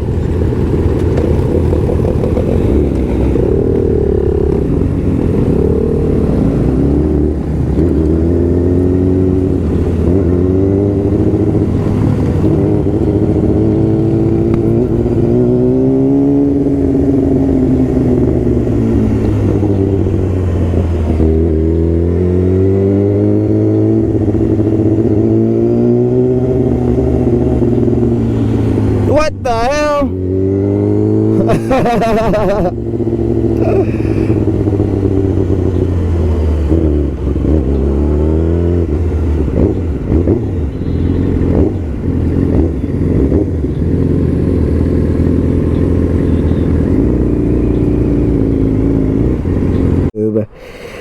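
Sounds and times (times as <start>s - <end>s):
motorcycle engine revving: 0.0s - 50.2s.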